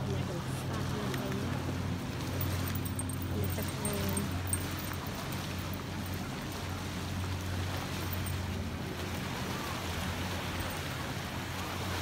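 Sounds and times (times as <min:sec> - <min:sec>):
motorboats and jet skis droning: 0:00.0 - 0:12.0
small waves at shore: 0:00.0 - 0:12.0.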